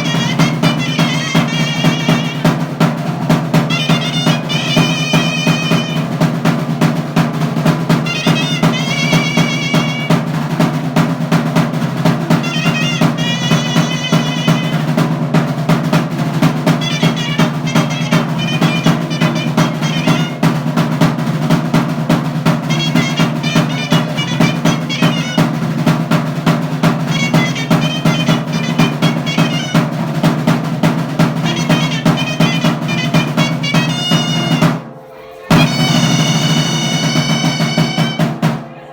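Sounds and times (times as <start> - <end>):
fast drumming with rolls: 0.0 - 38.7
shawm playing wavering melody: 0.0 - 38.8.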